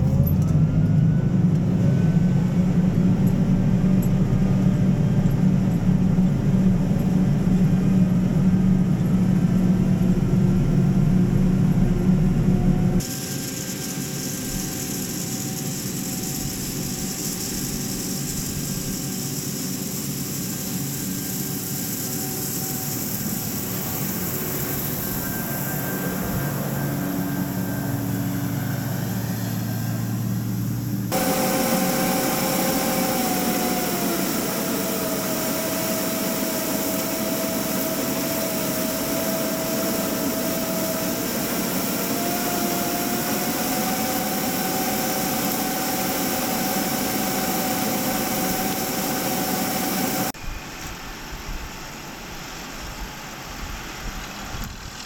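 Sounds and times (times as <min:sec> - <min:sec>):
harvesting machine running: 0:00.0 - 0:50.4
machine whine: 0:00.0 - 0:54.0.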